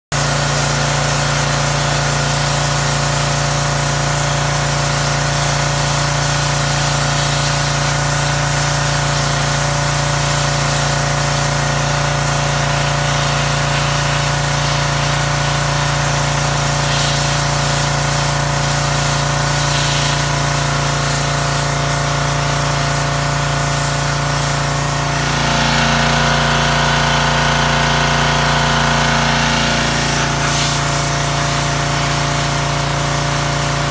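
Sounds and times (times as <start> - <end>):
pressure washer engine drone: 0.1 - 33.9
high-pressure water spray hiss: 0.2 - 25.8, 29.4 - 33.9.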